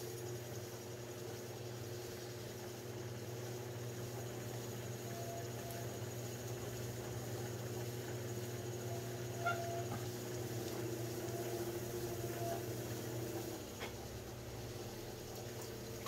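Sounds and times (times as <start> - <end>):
potter's wheel humming: 0.0 - 16.0.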